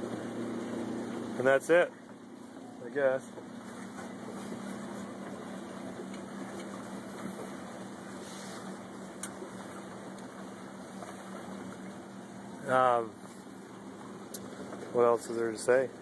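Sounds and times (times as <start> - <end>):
electric boat motor humming: 0.0 - 16.0
water noise: 0.0 - 16.0.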